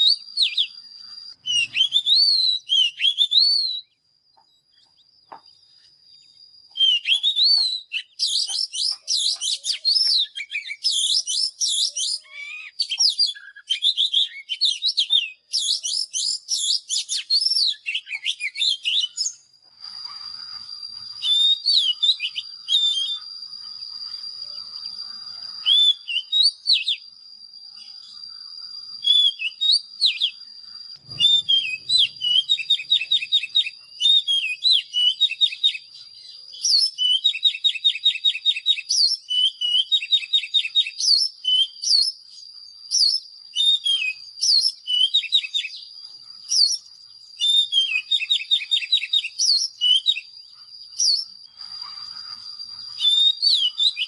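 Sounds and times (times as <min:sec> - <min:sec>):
bird singing whistled phrases: 0:00.0 - 0:04.0, 0:05.6 - 0:54.0.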